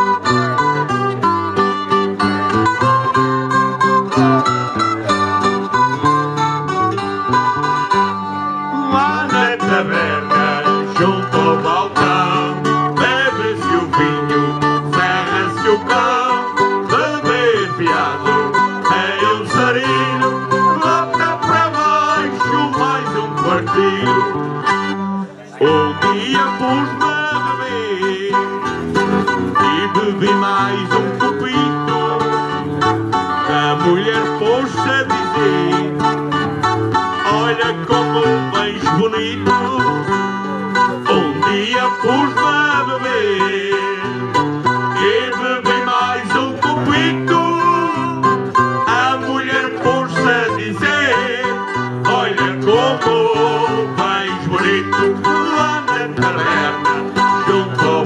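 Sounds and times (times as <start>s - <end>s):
folk music on plucked strings: 0.0s - 58.0s.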